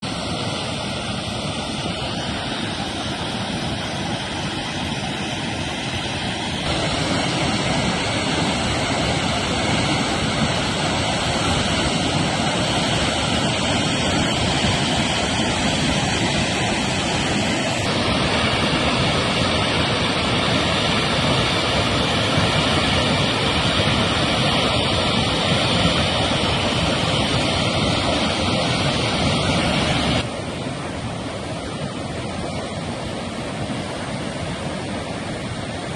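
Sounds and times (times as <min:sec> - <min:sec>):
rushing water: 0:00.0 - 0:35.9.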